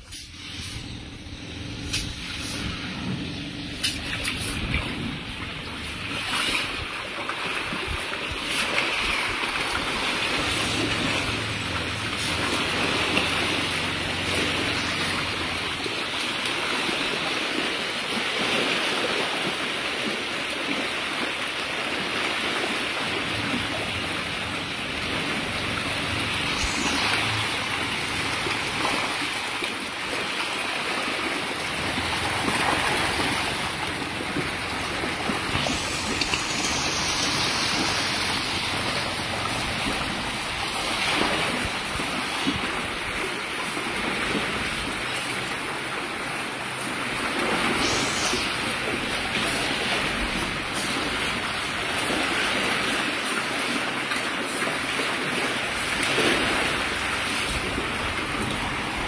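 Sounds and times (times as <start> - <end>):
fish splashing at water surface: 0.0 - 59.0.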